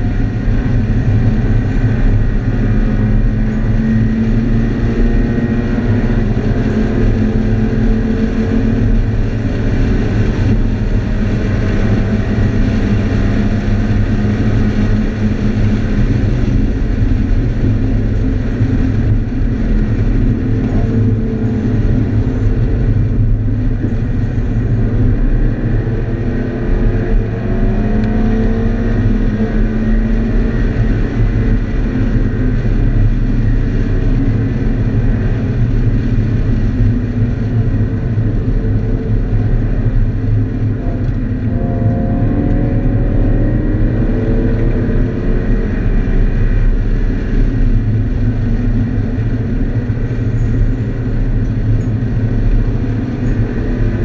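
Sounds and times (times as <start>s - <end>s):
car engine accelerating: 0.0s - 54.0s
road noise rumble: 0.0s - 54.0s.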